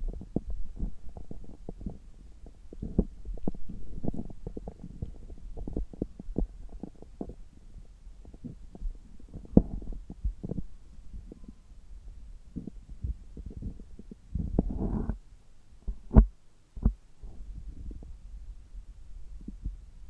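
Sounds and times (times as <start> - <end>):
stomach gurgles and pops: 0.0 - 11.4, 12.5 - 15.2, 15.9 - 18.2.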